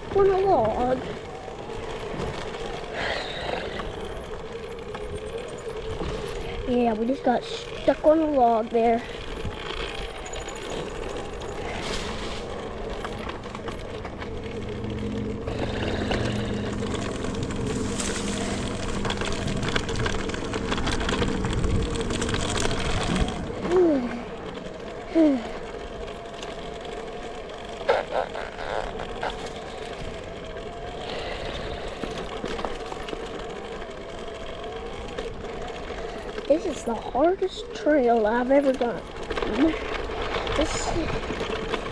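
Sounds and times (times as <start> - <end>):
electric motor whining: 0.0 - 41.9.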